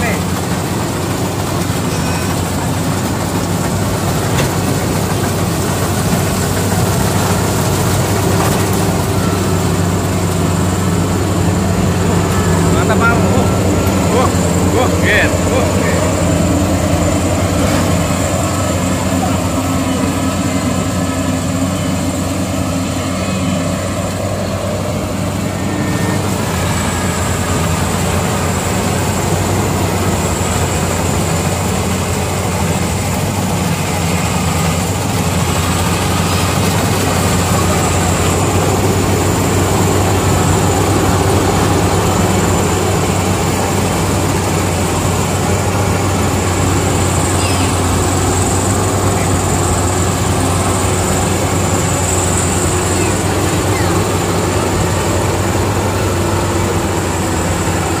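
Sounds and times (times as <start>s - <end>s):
combine harvester engine drone: 0.0s - 58.0s
threshing works turning: 0.0s - 58.0s.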